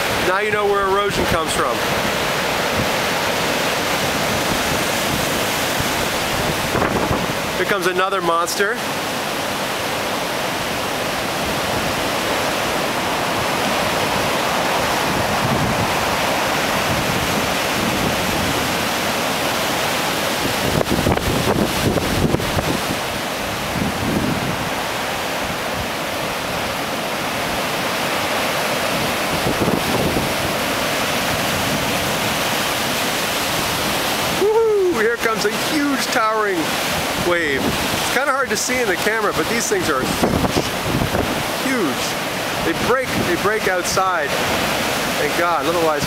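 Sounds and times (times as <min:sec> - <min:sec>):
wind buffeting microphone: 0:00.0 - 0:07.6, 0:09.3 - 0:34.9, 0:36.7 - 0:38.2, 0:39.8 - 0:43.5
surf pounding on rocky shore: 0:00.0 - 0:46.0.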